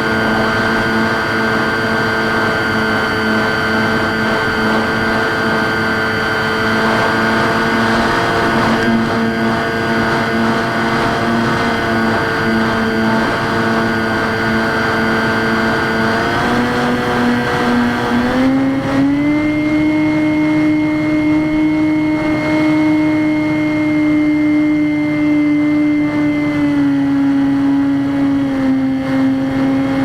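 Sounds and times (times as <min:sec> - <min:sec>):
electric motor and propeller whine: 0:00.0 - 0:30.0.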